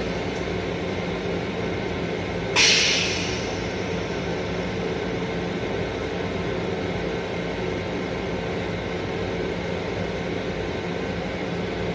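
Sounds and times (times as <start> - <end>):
electric railcar hum and hiss: 0.0 - 11.9.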